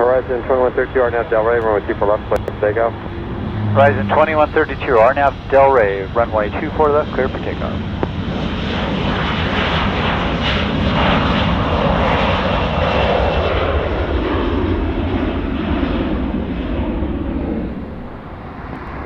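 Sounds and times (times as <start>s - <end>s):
airliner engines at takeoff: 0.0s - 19.0s.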